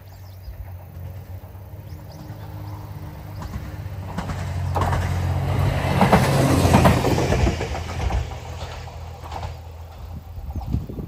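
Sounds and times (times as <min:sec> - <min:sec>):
railcar engine hum passing: 0:00.0 - 0:11.0
wheels clicking over rail joints: 0:00.0 - 0:11.0.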